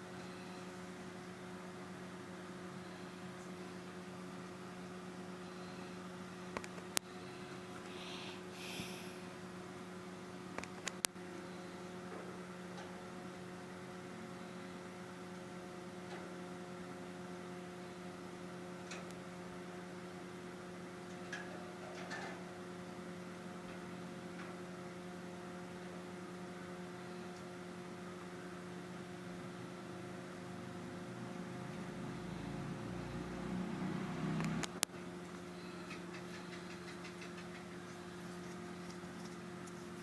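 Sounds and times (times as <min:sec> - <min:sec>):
electrical hum: 0:00.0 - 0:40.0.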